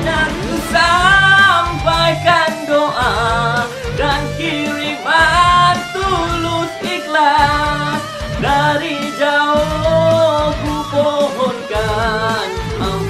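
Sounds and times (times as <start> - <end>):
heavy metal band backing track: 0.0 - 13.0
man singing: 0.0 - 13.0.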